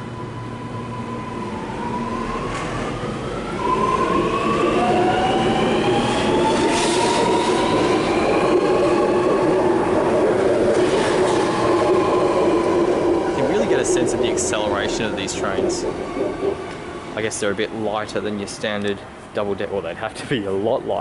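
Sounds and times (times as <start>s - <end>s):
traction motor whine climbing: 0.0s - 18.5s
train pulling away: 0.0s - 19.2s.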